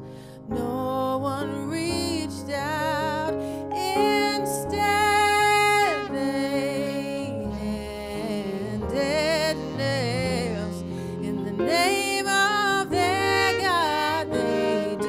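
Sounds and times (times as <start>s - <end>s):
piano: 0.0s - 15.0s
woman singing: 0.5s - 15.0s.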